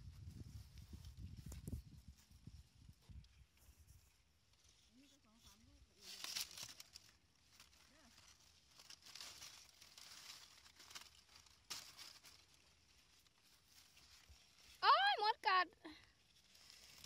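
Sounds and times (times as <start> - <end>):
rustling and crinkling of leaves: 0.0 - 17.0.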